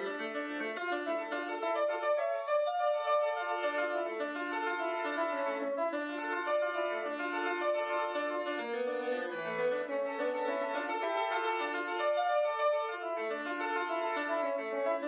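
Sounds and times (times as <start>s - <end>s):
grand piano playing: 0.0s - 15.0s.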